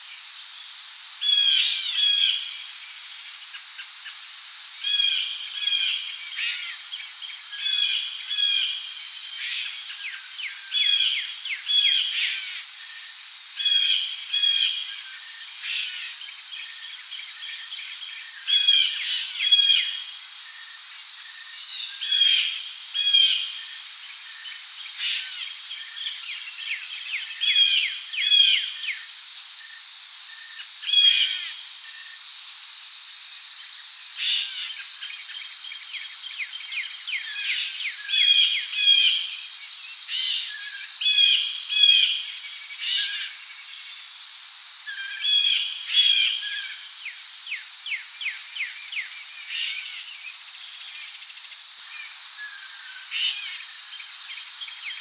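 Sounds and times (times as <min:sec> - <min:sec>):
high-pitched insect trill: 0:00.0 - 0:55.0.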